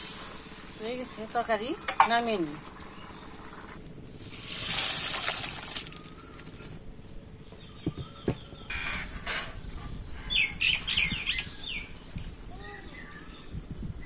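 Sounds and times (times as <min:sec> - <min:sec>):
birds chirping: 0:00.8 - 0:04.3, 0:05.0 - 0:14.0.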